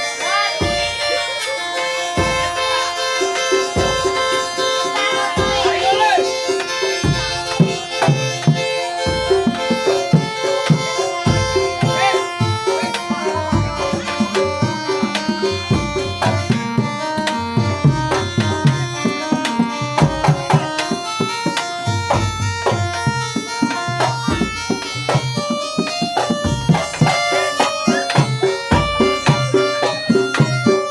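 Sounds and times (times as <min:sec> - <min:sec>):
folk melody line: 0:00.0 - 0:30.9
hand drums beating: 0:00.0 - 0:30.9.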